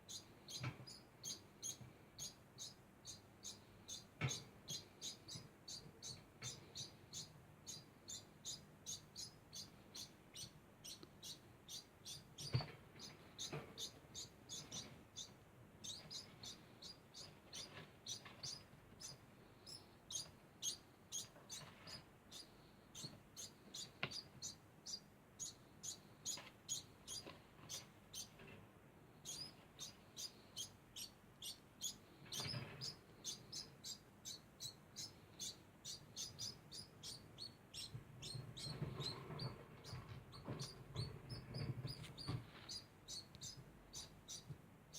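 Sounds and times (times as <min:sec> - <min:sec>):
degu chirping: 0:00.0 - 0:28.4, 0:29.2 - 0:44.9.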